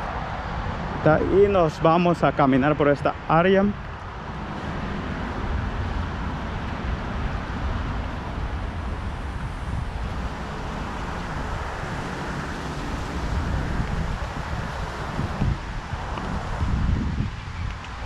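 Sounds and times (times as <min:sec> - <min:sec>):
highway traffic noise: 0:00.0 - 0:18.0
wind rumbling on microphone: 0:00.0 - 0:18.0.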